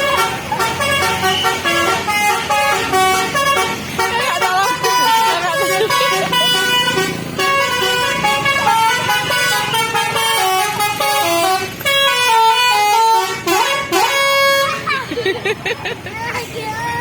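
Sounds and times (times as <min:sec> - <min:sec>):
bus horn playing a tune: 0:00.0 - 0:15.0.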